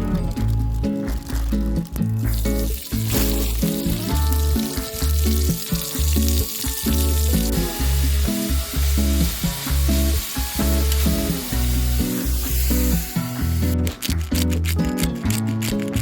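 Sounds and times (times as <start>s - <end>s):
background music with bass beat: 0.0s - 16.0s
food sizzling on a grill: 2.2s - 16.0s.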